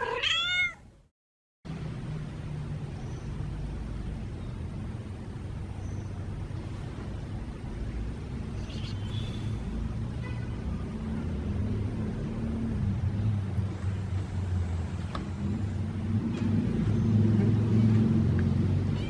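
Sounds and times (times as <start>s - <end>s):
vehicle engine rumble: 1.7s - 19.0s.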